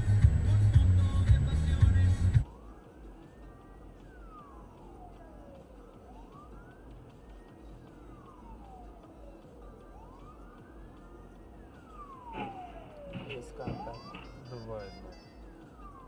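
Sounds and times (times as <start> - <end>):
ambulance siren wailing: 0.0 - 16.0.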